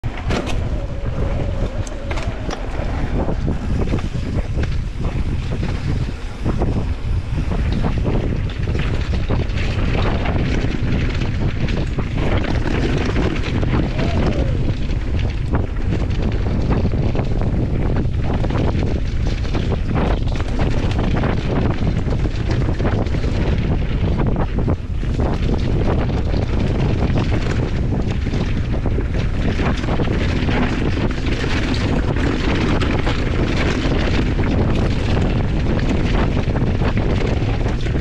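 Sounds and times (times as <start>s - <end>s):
bike rattles and knocks: 0.0s - 38.0s
wind buffeting microphone: 0.0s - 38.0s.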